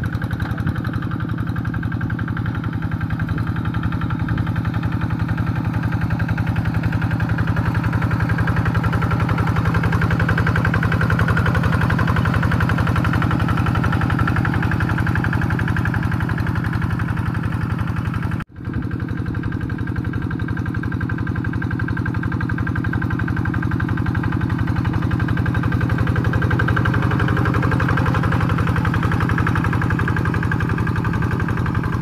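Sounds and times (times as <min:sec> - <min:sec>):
diesel engine chugging: 0:00.0 - 0:32.0.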